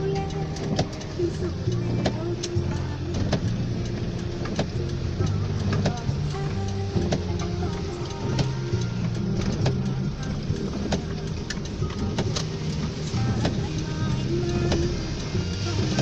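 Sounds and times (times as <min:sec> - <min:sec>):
heavy rain on hard surface: 0:00.0 - 0:16.0
music with low held notes: 0:00.0 - 0:16.0.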